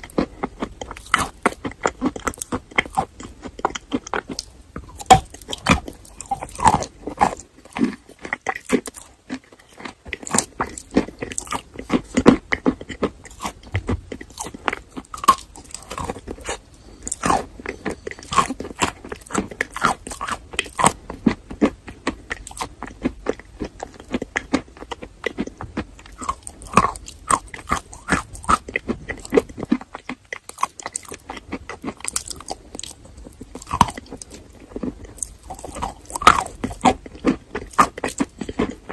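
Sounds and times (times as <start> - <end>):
chewing crunchy chalk: 0.0 - 38.9.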